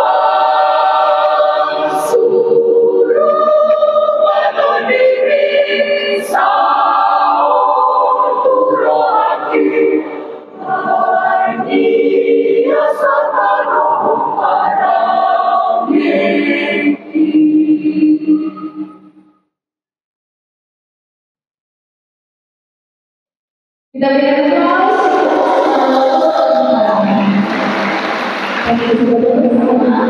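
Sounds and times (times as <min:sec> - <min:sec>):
mixed choir singing in harmony: 0:00.0 - 0:19.1, 0:24.0 - 0:30.0.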